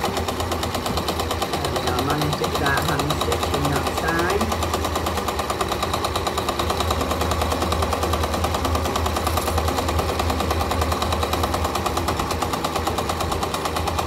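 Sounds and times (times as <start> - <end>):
sewing machine stitching: 0.0 - 14.0.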